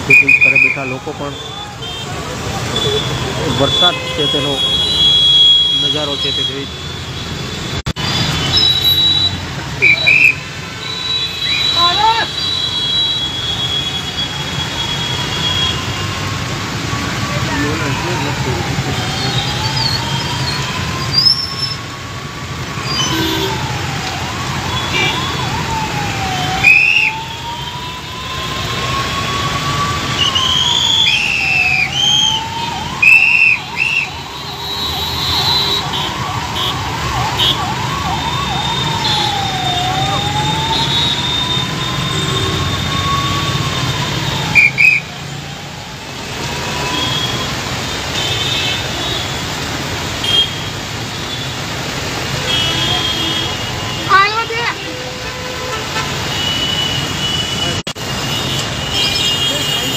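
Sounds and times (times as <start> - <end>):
emergency siren wailing: 0.0 - 7.1, 7.8 - 47.7, 52.3 - 56.8
heavy rain: 0.0 - 59.9
traffic on a wet road: 0.0 - 59.9.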